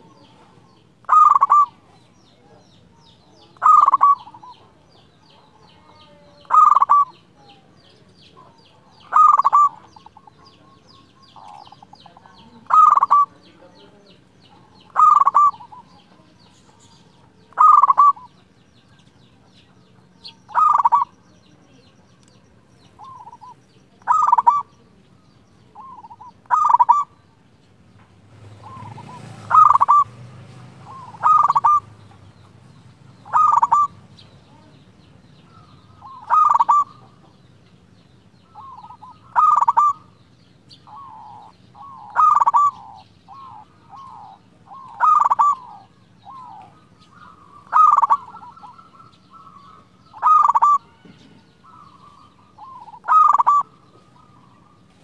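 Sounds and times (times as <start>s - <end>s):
dove cooing: 0.0s - 22.0s, 22.8s - 27.4s, 28.4s - 37.6s, 38.3s - 55.0s.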